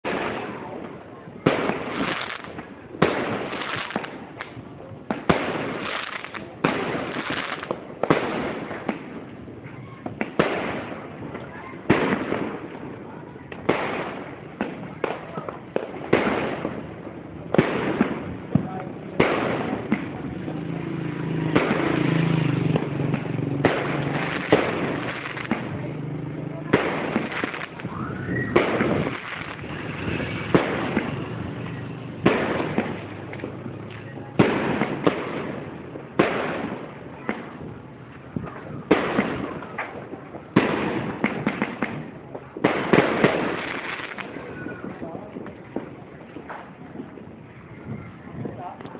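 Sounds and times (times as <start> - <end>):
fireworks bangs: 0.0 - 48.9
fireworks crackling: 0.0 - 48.9
small fireworks pops: 0.0 - 48.9.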